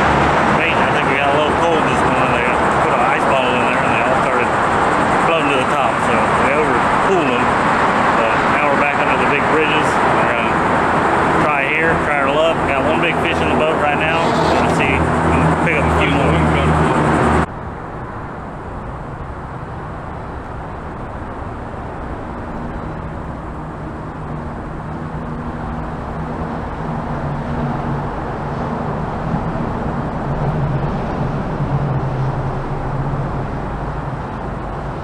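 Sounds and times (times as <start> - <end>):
low engine drone: 0.0 - 35.0
road traffic rumble: 0.0 - 35.0.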